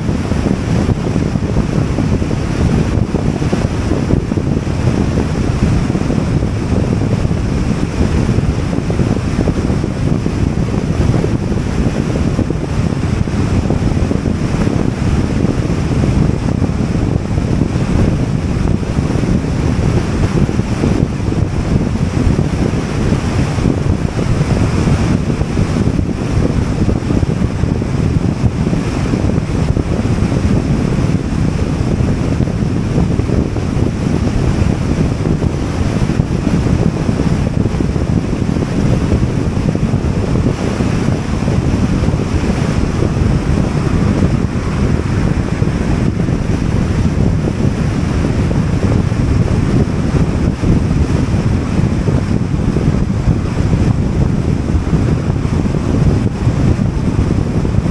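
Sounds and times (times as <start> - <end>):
car wind and road noise: 0.0 - 57.9.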